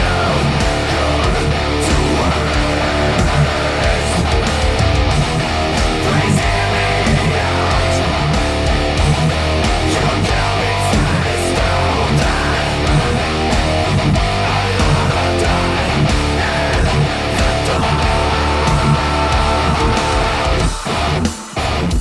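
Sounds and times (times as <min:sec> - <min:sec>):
distorted electric guitar riff: 0:00.0 - 0:22.0.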